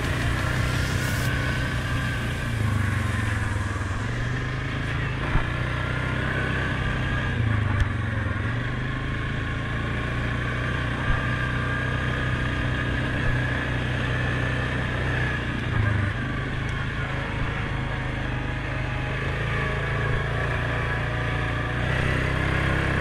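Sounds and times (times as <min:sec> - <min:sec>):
atv engine running: 0:00.0 - 0:23.0
high whine: 0:00.0 - 0:23.0.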